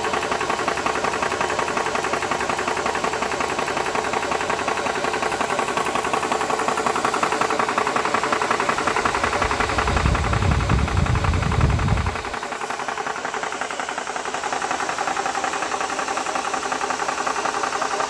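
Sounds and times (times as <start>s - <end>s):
air compressor pulsing chatter: 0.0s - 18.0s.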